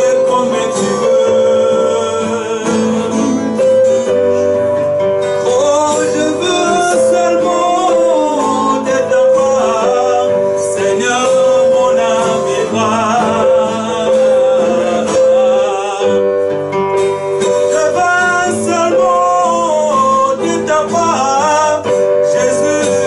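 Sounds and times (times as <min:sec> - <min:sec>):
acoustic guitar strumming: 0:00.0 - 0:23.0
man singing: 0:00.0 - 0:23.0.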